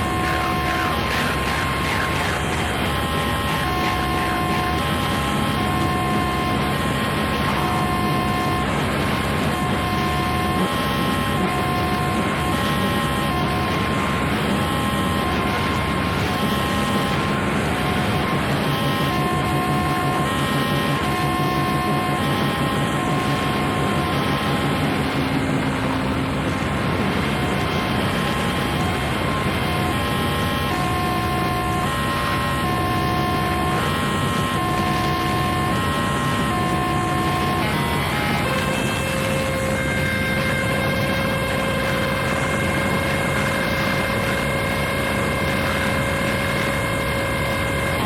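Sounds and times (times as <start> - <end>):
harsh noise music static: 0.0 - 48.0
high electronic tones: 0.0 - 48.0.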